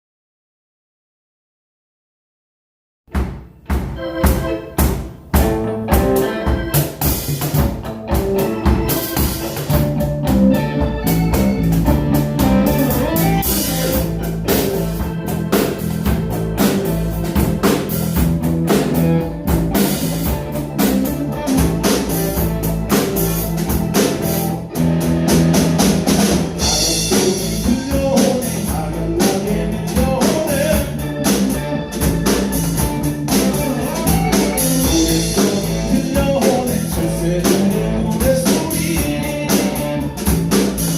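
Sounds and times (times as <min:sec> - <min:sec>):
drum kit beat: 0:03.1 - 0:40.9
band playing pop-rock song: 0:03.5 - 0:40.9
guitar: 0:03.6 - 0:40.9.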